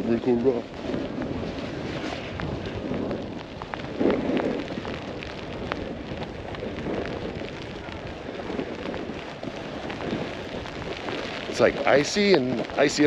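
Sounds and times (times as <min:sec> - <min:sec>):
snowboard edges clicking: 0:00.0 - 0:13.0
snowboard scraping over icy snow: 0:00.0 - 0:13.0.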